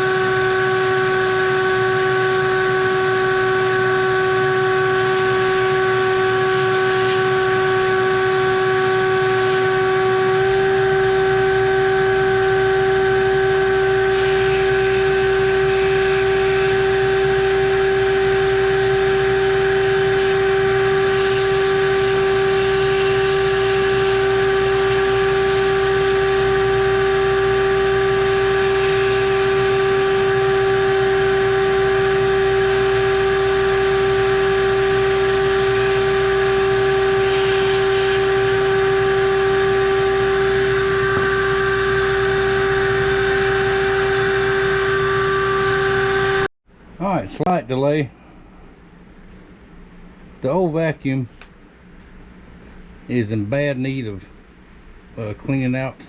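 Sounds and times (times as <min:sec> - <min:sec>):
machine whine: 0:00.0 - 0:47.5.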